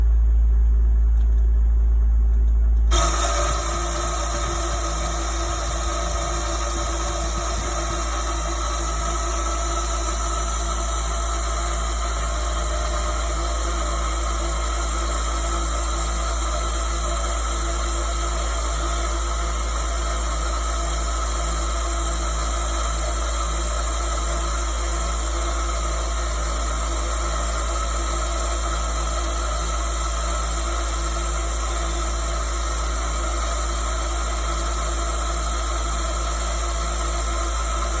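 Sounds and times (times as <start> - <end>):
router spindle whine: 2.9 - 38.0.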